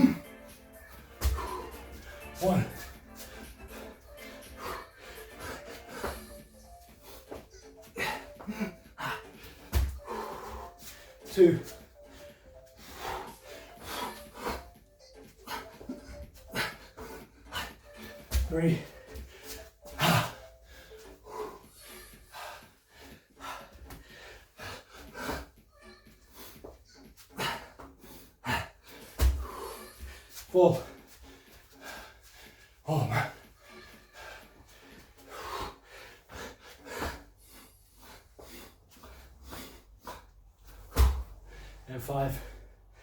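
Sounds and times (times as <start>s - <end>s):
man breathing hard and gasping: 0.0s - 43.0s.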